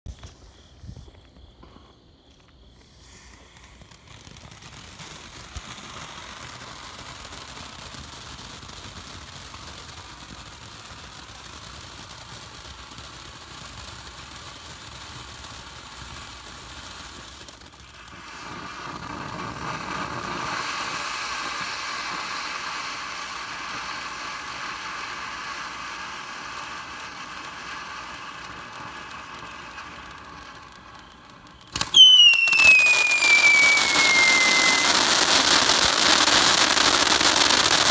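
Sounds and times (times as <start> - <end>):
falling firework whistle: 0.1 - 37.9
firework fountain hissing: 0.1 - 37.9.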